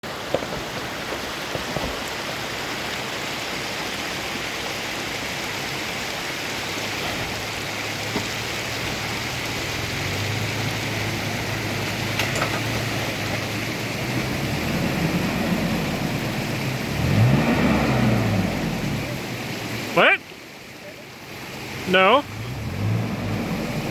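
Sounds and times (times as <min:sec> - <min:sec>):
creek water flowing: 0:00.0 - 0:23.9.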